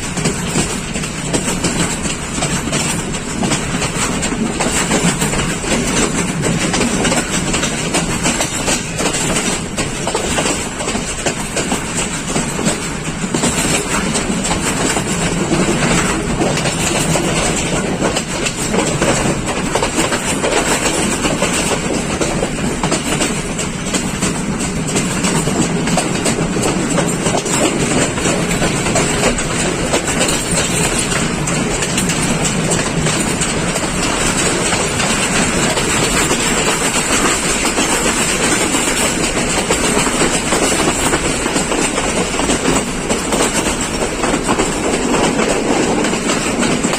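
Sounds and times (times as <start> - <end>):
train rolling rumble: 0.0 - 46.9
wheels clattering over rail joints: 0.0 - 46.9.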